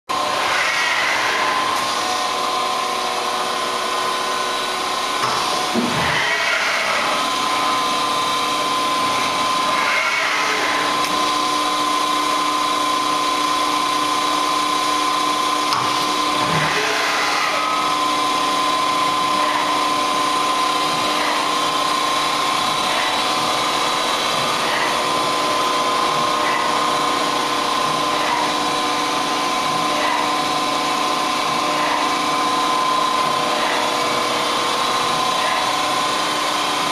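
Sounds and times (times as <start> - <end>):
lathe machine whine: 0.1 - 36.9.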